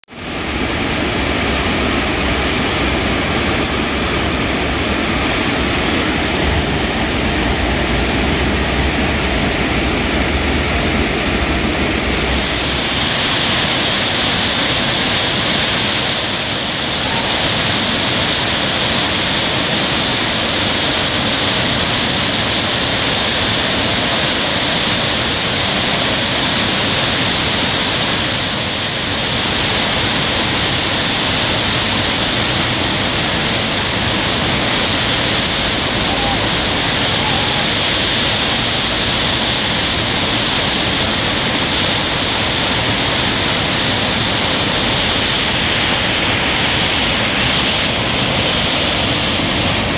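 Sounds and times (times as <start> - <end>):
waterfall rushing: 0.1 - 49.9.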